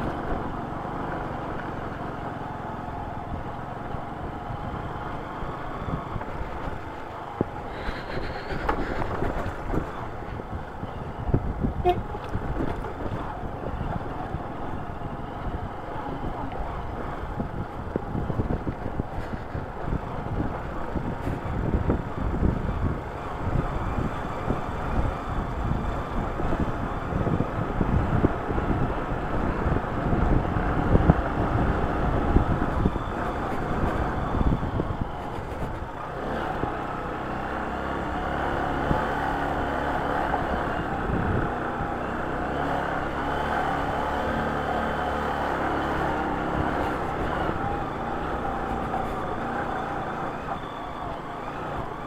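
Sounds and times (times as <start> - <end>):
motorcycle engine running: 0.0 - 52.0
wind and road rumble: 0.0 - 52.0.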